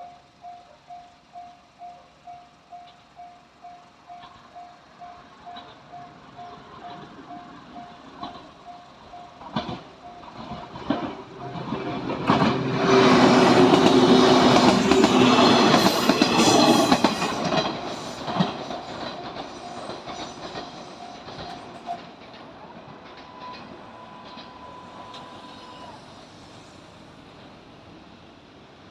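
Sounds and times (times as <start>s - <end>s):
train wheels clacking: 0.0s - 27.6s.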